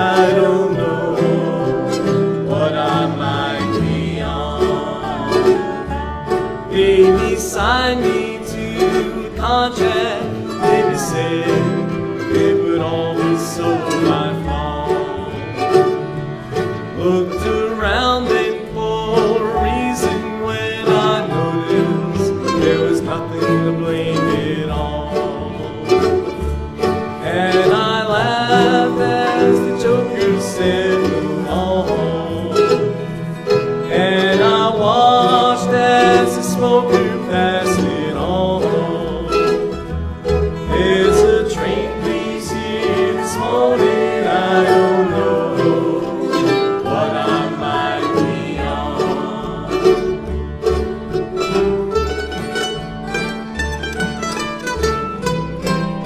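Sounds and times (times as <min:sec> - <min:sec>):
acoustic bluegrass band playing: 0:00.0 - 0:56.0.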